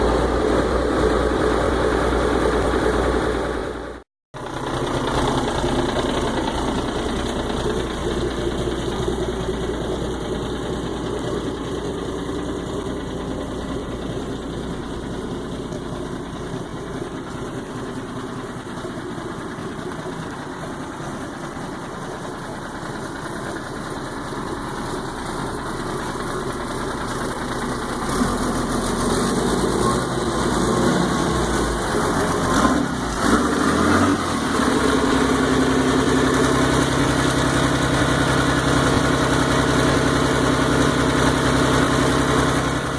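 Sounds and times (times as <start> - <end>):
diesel boat engine idling: 0.0 - 42.9.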